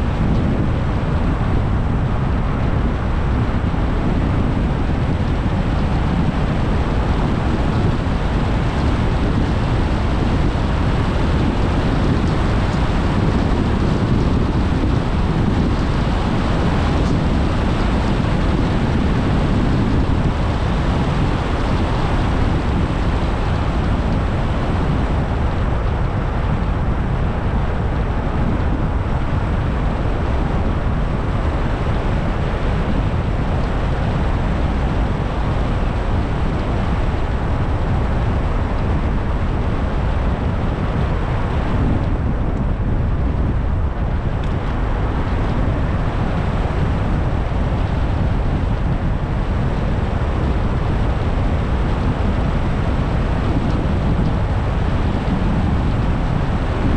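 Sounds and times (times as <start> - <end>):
car road and wind noise: 0.0 - 56.9.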